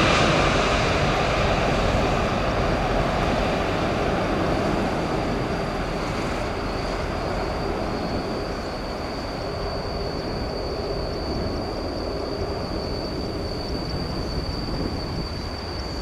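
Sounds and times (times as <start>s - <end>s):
jet engines roaring: 0.0s - 15.8s
high-pitched whine: 0.0s - 16.0s.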